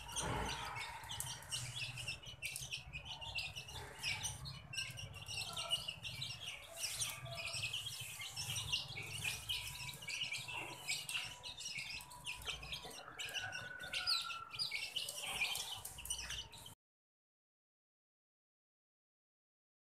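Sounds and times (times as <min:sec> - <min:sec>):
chicks peeping: 0:00.0 - 0:16.8.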